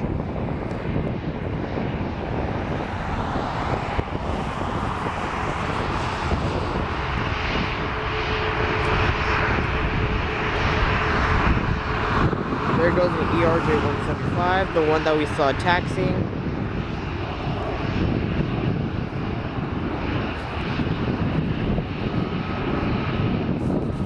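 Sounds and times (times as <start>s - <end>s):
jet engines on takeoff run: 0.0s - 24.0s
steady engine whine: 0.0s - 24.0s.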